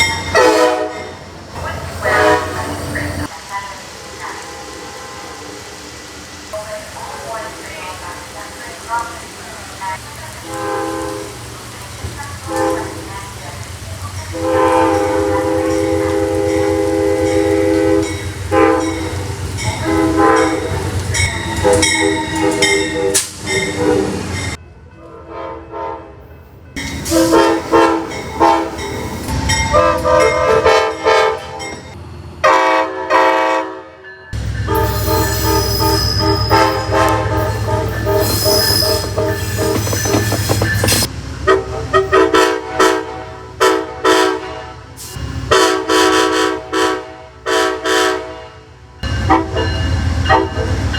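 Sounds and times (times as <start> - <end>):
locomotive chime horn blasts: 0.0 - 3.3, 10.4 - 11.4, 12.3 - 13.3, 14.2 - 26.2, 26.8 - 50.9
low rumble of train: 0.0 - 50.9.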